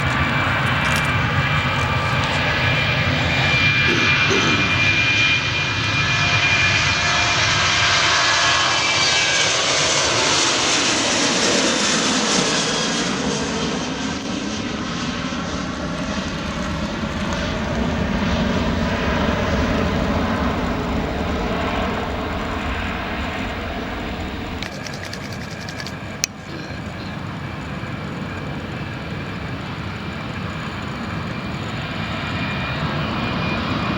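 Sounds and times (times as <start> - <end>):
jet engines at takeoff: 0.0 - 33.9.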